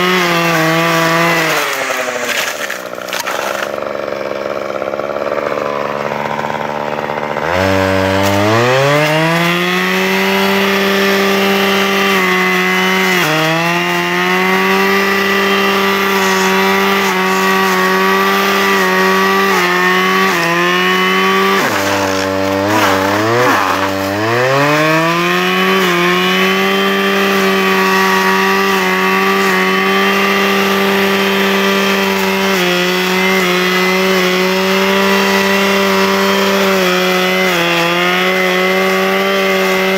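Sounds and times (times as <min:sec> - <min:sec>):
brushcutter engine revving: 0:00.0 - 0:39.9.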